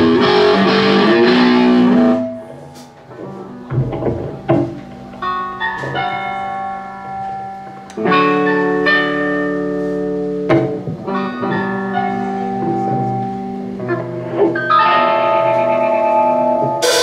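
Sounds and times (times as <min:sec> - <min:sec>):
bass guitar: 0:00.0 - 0:17.0
electric guitar chords: 0:00.0 - 0:17.0.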